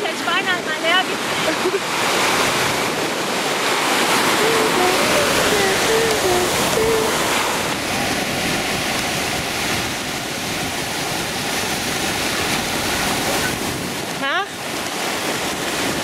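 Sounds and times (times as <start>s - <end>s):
sea surf washing onto beach: 0.0s - 16.0s.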